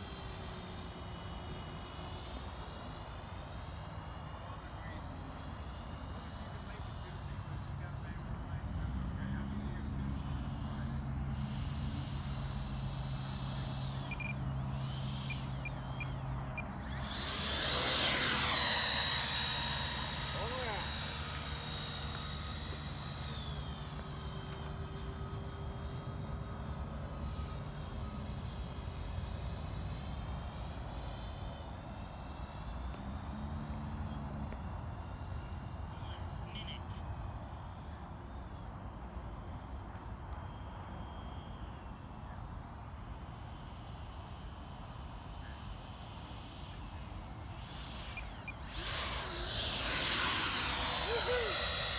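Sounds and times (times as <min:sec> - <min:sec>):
electric ducted fans whining: 0:00.0 - 0:51.9.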